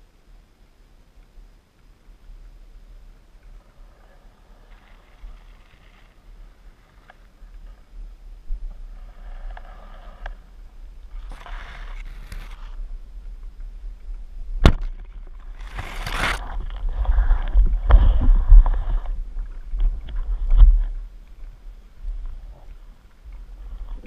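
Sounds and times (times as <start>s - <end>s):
low underwater rumble: 1.4s - 24.0s.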